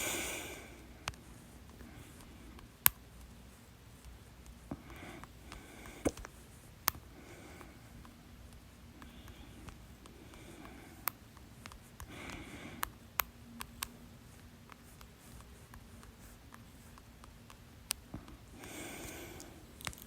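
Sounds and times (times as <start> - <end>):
soft breaths: 0.0 - 20.0.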